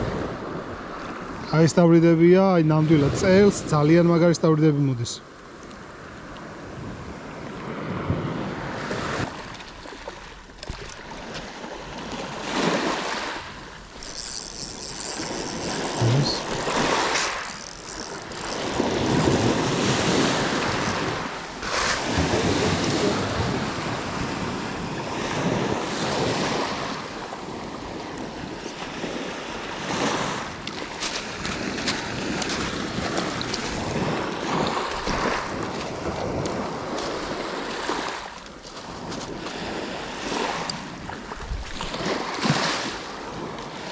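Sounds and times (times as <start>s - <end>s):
sea waves breaking on shore: 2.1s - 43.9s.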